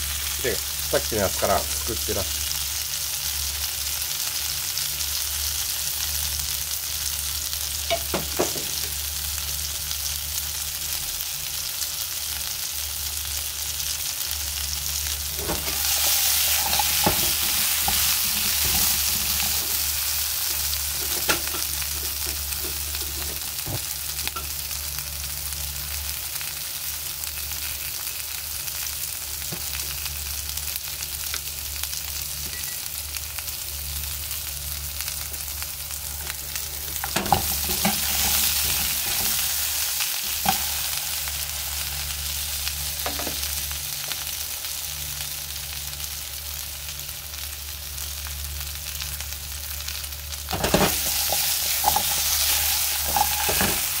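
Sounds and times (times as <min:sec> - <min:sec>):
potatoes sizzling in a frying pan: 0:00.0 - 0:54.0.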